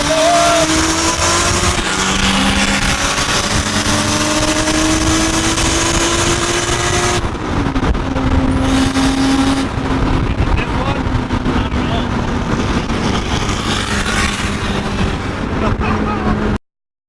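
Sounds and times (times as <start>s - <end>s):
car engine pulling hard: 0.0s - 16.6s.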